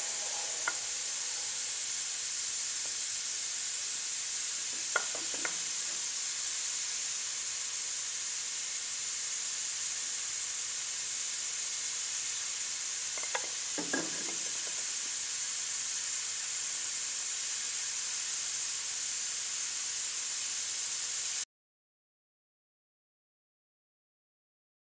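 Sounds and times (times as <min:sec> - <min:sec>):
steady hiss: 0:00.0 - 0:21.4.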